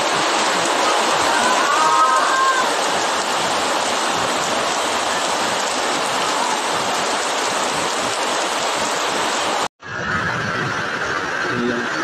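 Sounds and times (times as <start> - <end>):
heavy rain on water and leaves: 0.0 - 12.0.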